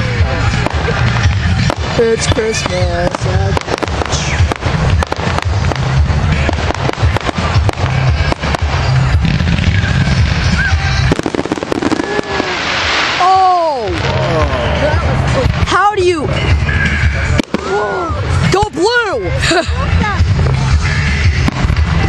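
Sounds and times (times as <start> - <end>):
firework cracks and crackles: 0.0 - 19.6, 20.2 - 22.0.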